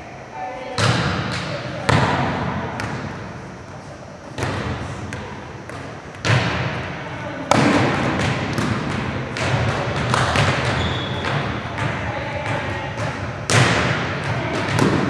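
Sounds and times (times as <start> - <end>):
volleyball hits echoing in gym: 0.6 - 15.0.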